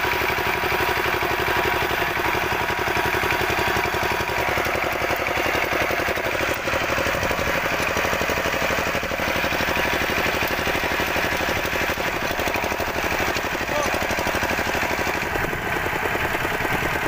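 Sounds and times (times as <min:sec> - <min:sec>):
diesel engine knocking: 0:00.0 - 0:17.0.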